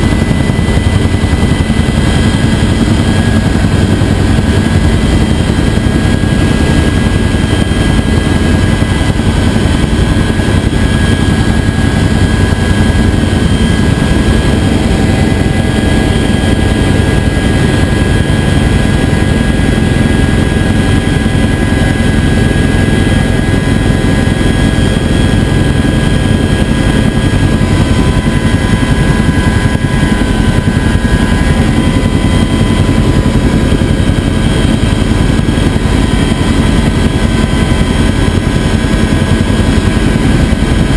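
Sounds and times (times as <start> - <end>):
helicopter rotor beat: 0.0 - 40.9
turbine engine whine: 0.0 - 40.9.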